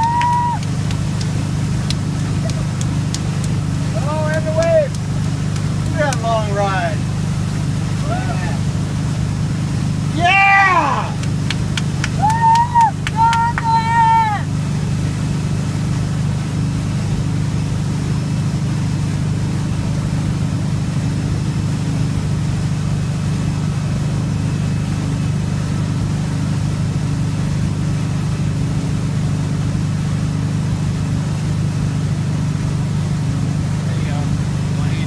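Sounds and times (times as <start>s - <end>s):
boat engine drone: 0.0s - 35.0s
water rushing from wake: 0.0s - 35.0s.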